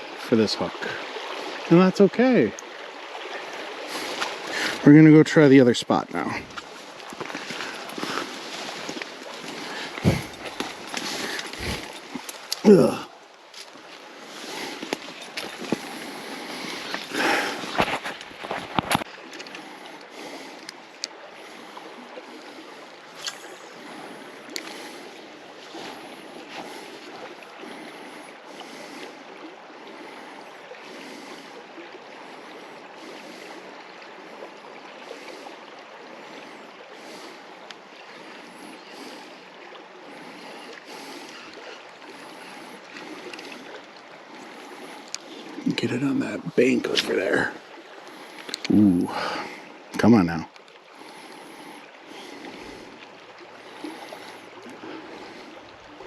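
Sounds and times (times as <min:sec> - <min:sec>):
water splashing and rushing: 0:00.0 - 0:56.0.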